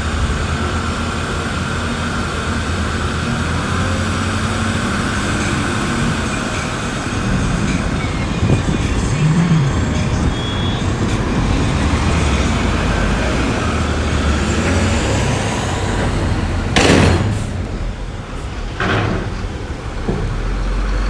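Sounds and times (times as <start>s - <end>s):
loud rush of noise: 0.0s - 20.0s
heavy machine diesel engines: 0.0s - 21.0s.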